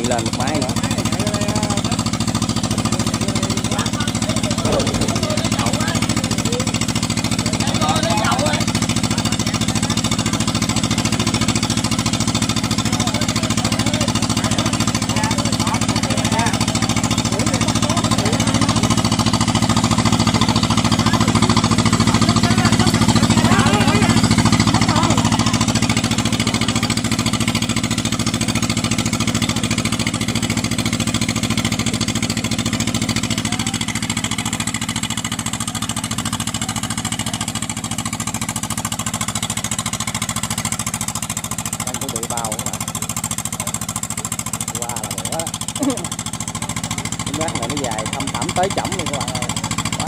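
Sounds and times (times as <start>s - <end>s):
diesel engine of combine harvester: 0.0s - 50.0s.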